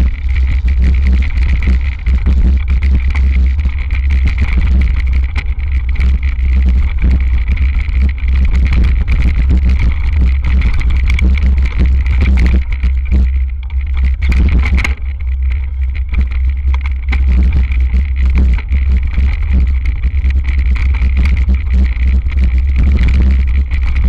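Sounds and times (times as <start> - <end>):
bike knocks and rattles: 0.0 - 24.0
wind rumbling on microphone: 0.0 - 24.0.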